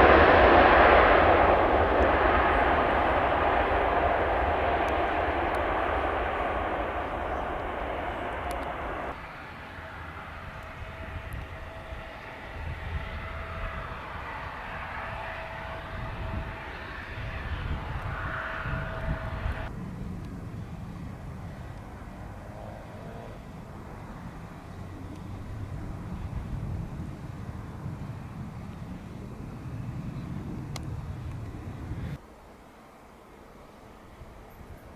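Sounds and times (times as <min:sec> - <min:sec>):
dull rumble: 0:00.0 - 0:09.2, 0:09.8 - 0:32.2
jet engines rushing and whining: 0:00.0 - 0:32.2.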